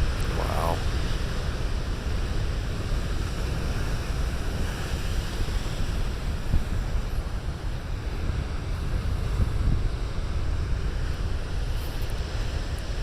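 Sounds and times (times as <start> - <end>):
surf breaking and washing ashore: 0.0 - 13.0
wind rumbling on microphone: 0.0 - 13.0.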